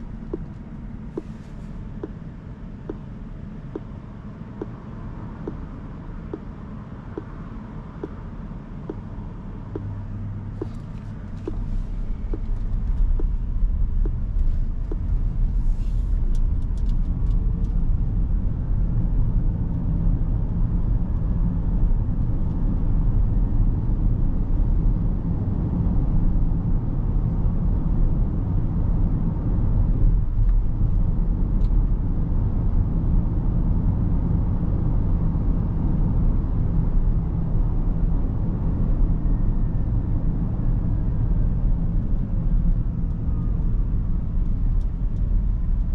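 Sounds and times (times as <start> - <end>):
road and tyre rumble in car: 0.0 - 45.9.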